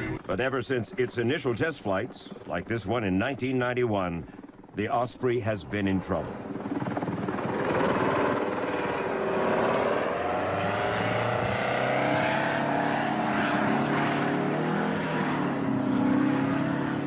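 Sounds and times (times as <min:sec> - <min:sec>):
tiltrotor aircraft engines: 0:00.0 - 0:17.0.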